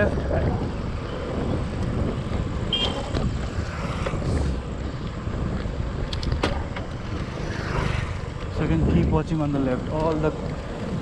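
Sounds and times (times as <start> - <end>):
bicycle tyres rolling on road: 0.0 - 11.0
wind buffeting microphone: 0.0 - 11.0.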